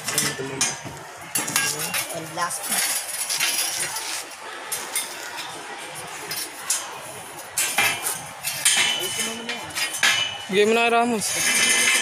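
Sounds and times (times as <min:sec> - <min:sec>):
metal scaffold parts clinking: 0:00.0 - 0:05.6, 0:07.5 - 0:12.0.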